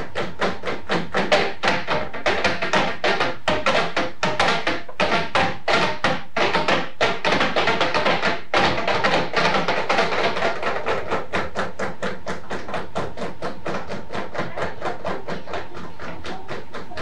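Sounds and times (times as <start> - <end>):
percussion music: 0.0 - 17.0.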